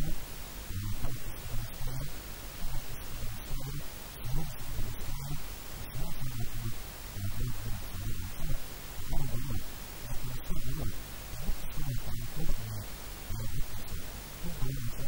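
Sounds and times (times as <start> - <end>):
background hiss: 0.0 - 15.0
man talking: 0.0 - 15.0.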